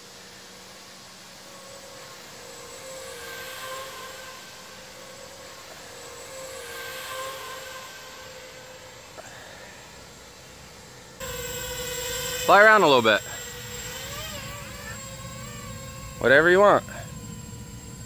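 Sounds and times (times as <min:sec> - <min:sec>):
model aircraft motors whining: 0:00.0 - 0:18.0.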